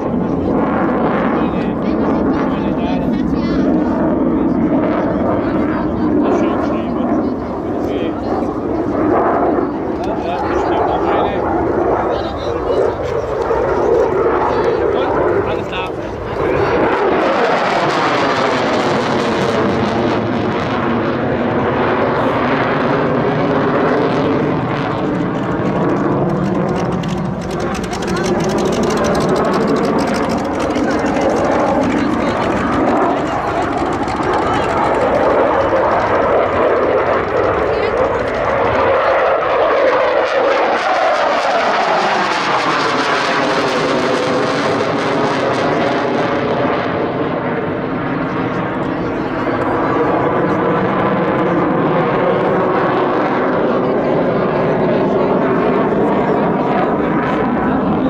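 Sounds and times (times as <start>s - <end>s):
aircraft engine drone: 0.0s - 58.0s
fighter jet flying past: 0.0s - 58.0s.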